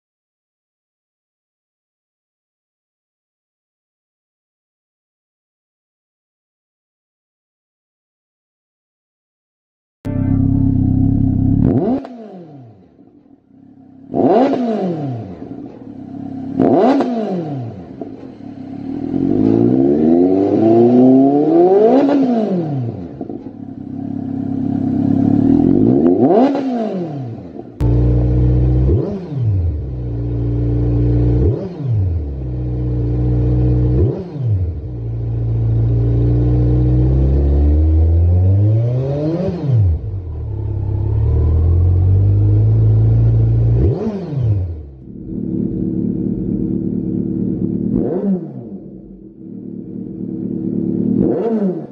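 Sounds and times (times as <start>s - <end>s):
motorcycle engine revving: 10.1s - 51.9s.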